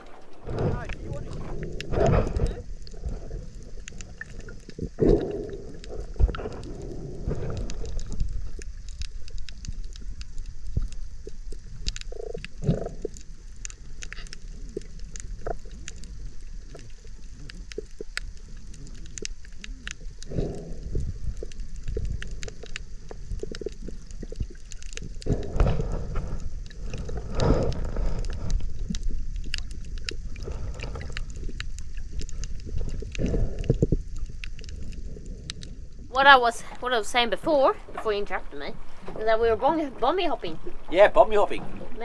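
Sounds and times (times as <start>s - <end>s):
low underwater rumble: 0.0s - 42.0s
muffled water surges and breath: 0.0s - 42.0s.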